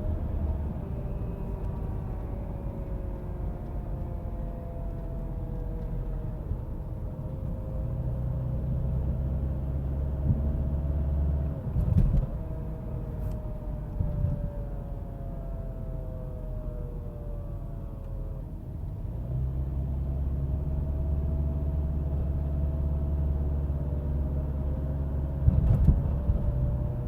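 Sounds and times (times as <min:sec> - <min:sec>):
road and engine rumble: 0:00.0 - 0:27.0.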